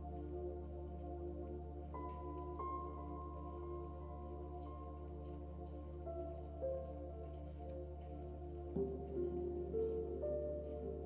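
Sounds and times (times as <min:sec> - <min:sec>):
ambient meditation music drone: 0:00.0 - 0:11.0.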